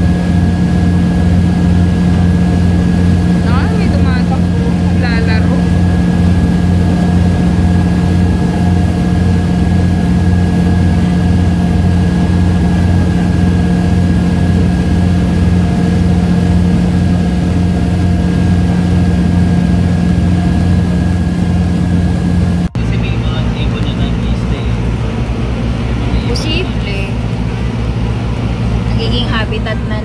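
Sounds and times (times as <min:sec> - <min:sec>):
ferry engine droning: 0:00.0 - 0:30.0.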